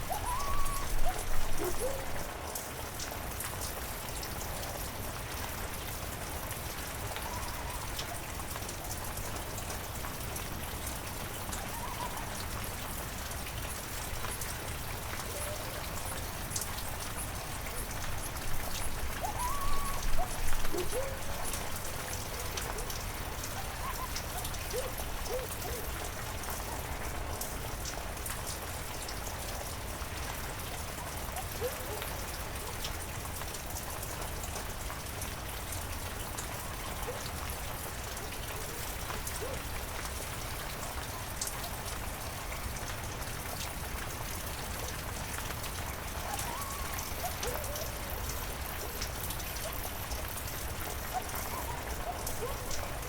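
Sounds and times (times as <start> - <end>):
raindrops ticking on surfaces: 0.0 - 53.0.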